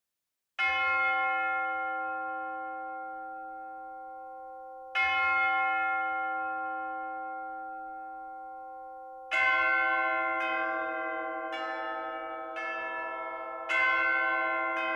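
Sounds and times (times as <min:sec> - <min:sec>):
church bell tolling: 0:00.6 - 0:14.9.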